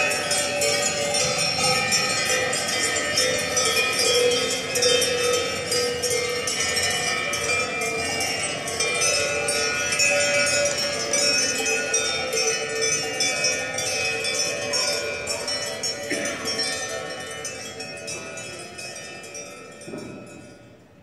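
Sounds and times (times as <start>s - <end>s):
bells ringing in music: 0.0s - 21.0s.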